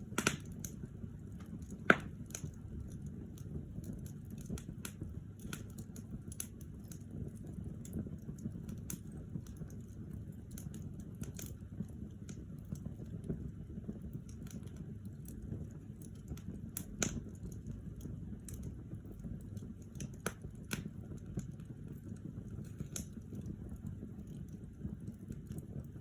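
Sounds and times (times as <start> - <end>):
burning logs crackling and popping: 0.0 - 26.0
fire flames rumbling: 0.0 - 26.0.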